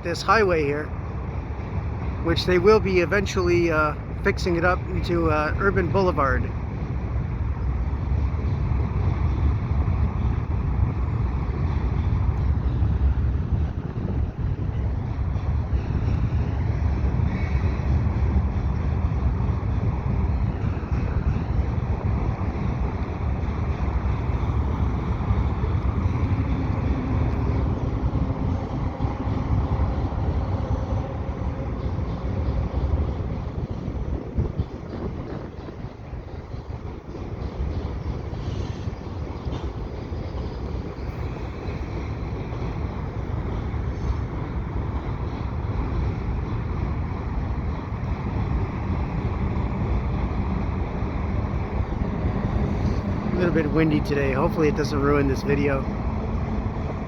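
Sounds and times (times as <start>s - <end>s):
freight train rolling across bridge: 0.0s - 57.0s
wind buffeting microphone: 0.0s - 57.0s.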